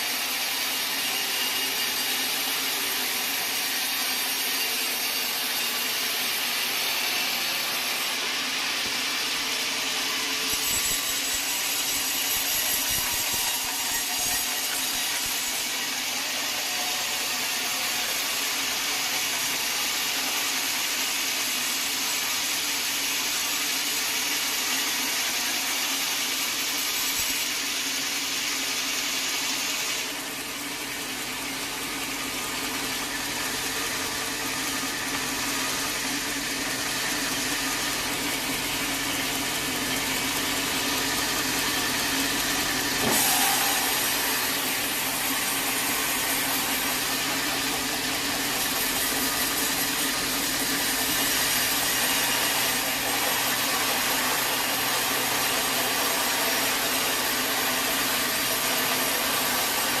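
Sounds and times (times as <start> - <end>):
sawmill machinery drone: 0.0 - 60.0.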